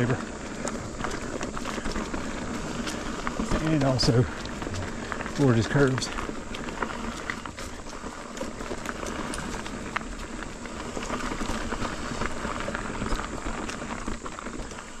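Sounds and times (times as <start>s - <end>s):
bike clicks and rattles: 0.0s - 15.0s
bike tyres crunching on dirt: 0.0s - 15.0s.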